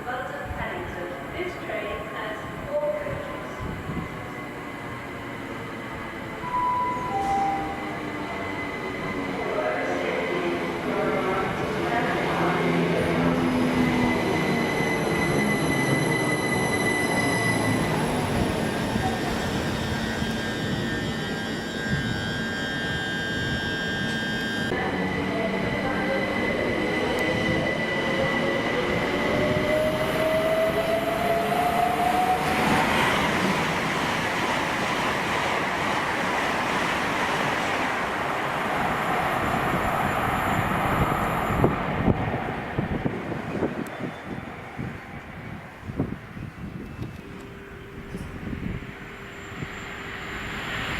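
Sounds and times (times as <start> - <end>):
train rushing past: 0.0 - 50.9
train whine rising in pitch: 3.2 - 50.9.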